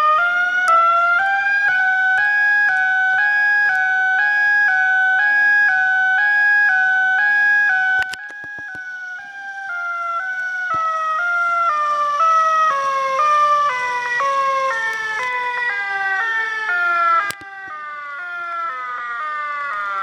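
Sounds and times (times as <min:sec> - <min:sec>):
electronic siren tone: 0:00.0 - 0:20.0.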